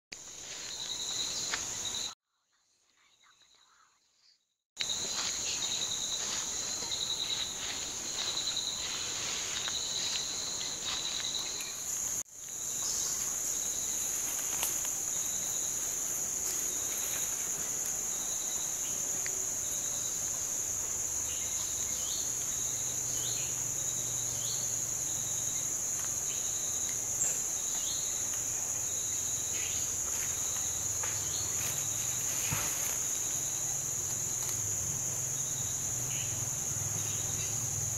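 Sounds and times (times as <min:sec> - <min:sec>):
insects droning: 0:00.2 - 0:02.2, 0:03.0 - 0:37.9.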